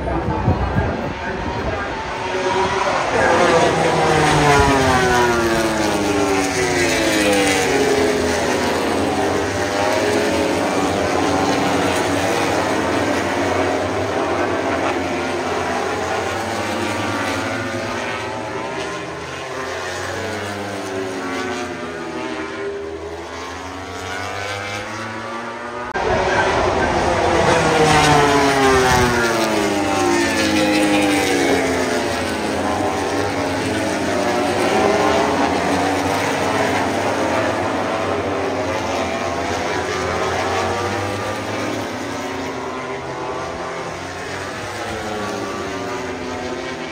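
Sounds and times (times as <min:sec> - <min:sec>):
engines droning past: 0:00.0 - 0:46.9.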